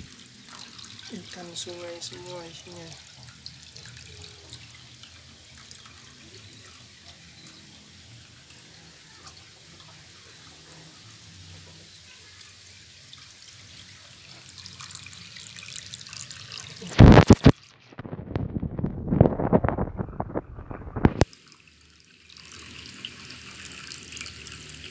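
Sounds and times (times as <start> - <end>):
trickle of running water: 0.0 - 24.9
water drips and splashes: 0.0 - 24.9.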